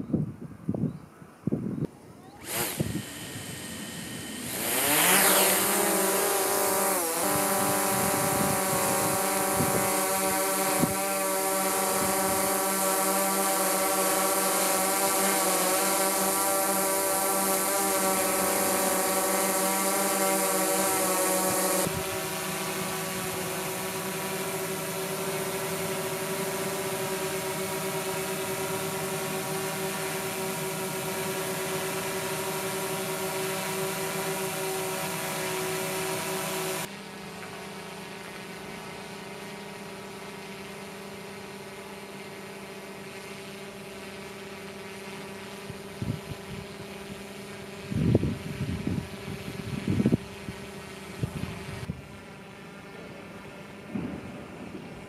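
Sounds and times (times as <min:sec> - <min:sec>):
drone propellers buzzing: 0:02.3 - 0:55.0.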